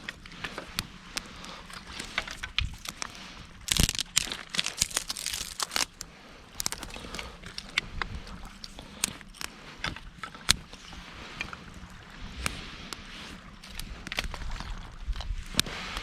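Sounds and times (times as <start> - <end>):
twigs crackling in a campfire: 0.0 - 16.0.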